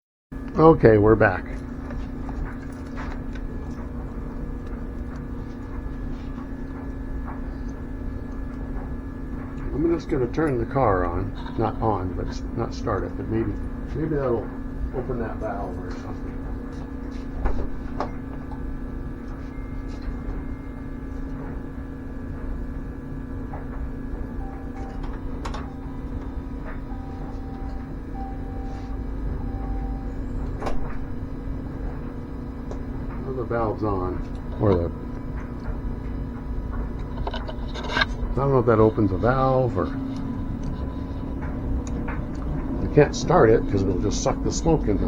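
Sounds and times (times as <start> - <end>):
air pump humming: 0.4 - 45.0.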